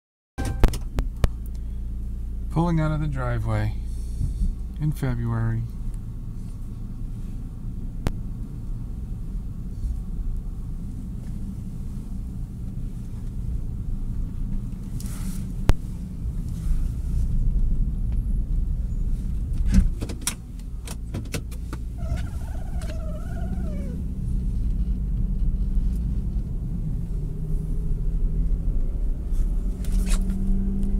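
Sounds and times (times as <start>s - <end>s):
car engine low rumble: 0.4s - 30.9s.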